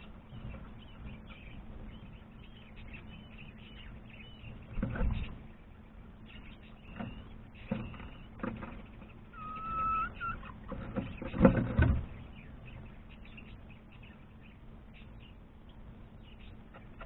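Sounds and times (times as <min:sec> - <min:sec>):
faint chirps and ticks: 0:00.0 - 0:17.0.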